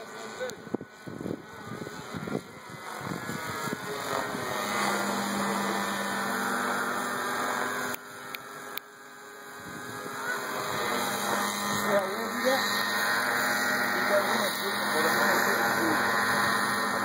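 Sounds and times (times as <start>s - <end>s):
rc helicopter engine drone: 0.0s - 17.0s.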